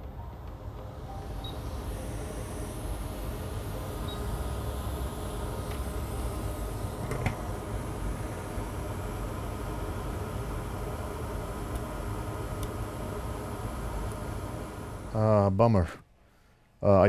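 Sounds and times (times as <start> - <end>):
blowing air and fan noise: 0.0 - 15.9.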